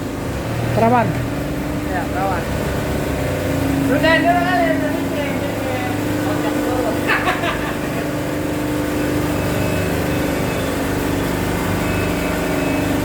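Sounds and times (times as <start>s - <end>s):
baling press mechanical hum: 0.0s - 13.0s.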